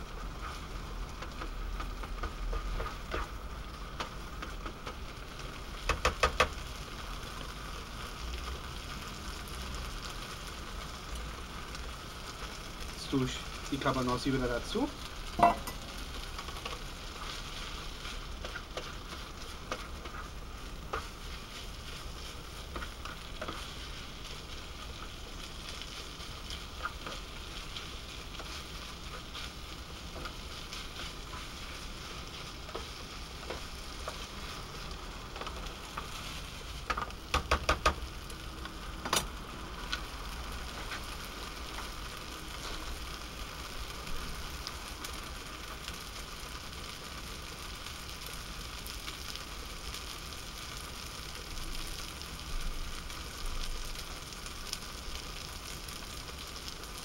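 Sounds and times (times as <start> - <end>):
food sizzling in a frying pan: 0.0 - 57.0.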